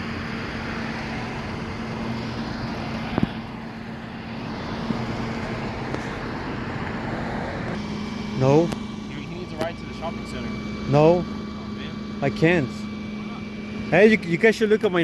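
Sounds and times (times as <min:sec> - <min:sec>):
constant low hum: 0:00.0 - 0:15.0
vehicle engine and traffic: 0:00.0 - 0:15.0.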